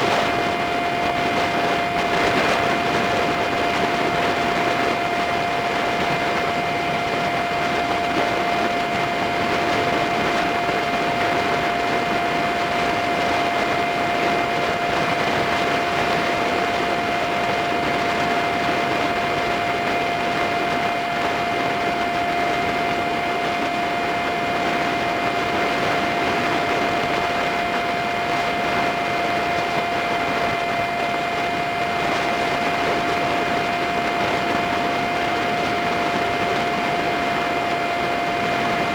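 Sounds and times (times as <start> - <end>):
constant whine: 0.0 - 38.9
rushing wind: 0.0 - 38.9.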